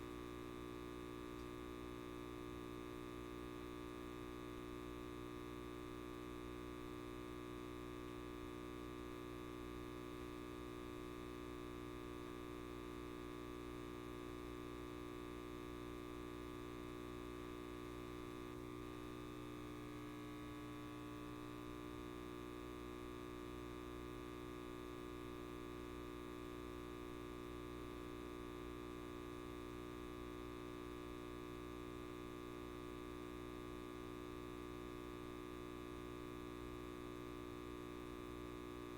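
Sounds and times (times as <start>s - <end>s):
light bulb electrical hum: 0.0s - 38.9s.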